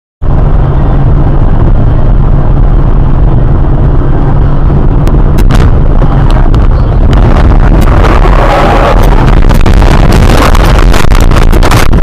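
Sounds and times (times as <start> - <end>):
road and engine rumble in car: 0.2 - 12.0.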